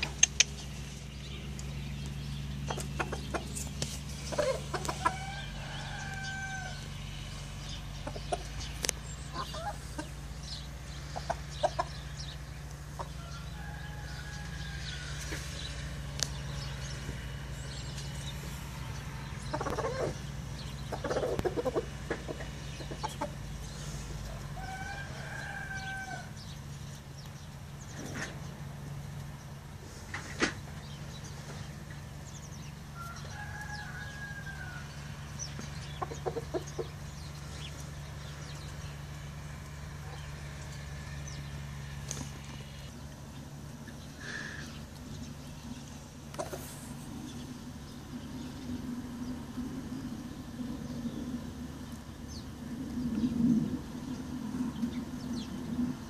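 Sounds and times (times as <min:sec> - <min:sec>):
chickens clucking: 0:00.0 - 0:49.6
drawn-out chicken calls: 0:00.0 - 0:56.0
steady low hum: 0:00.0 - 0:56.0.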